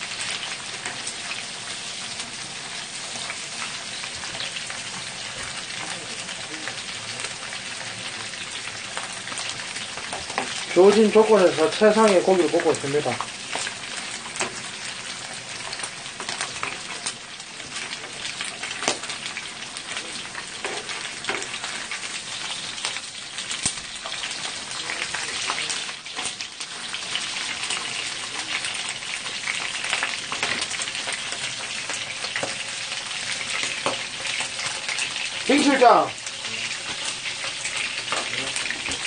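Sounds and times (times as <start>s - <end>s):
meat sizzling: 0.0s - 39.0s.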